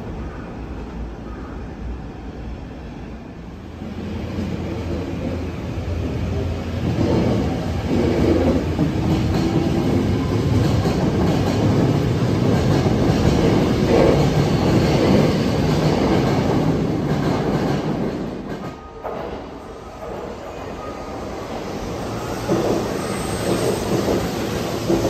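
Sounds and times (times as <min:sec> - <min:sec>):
train wheels rumbling on rails: 0:03.7 - 0:25.0.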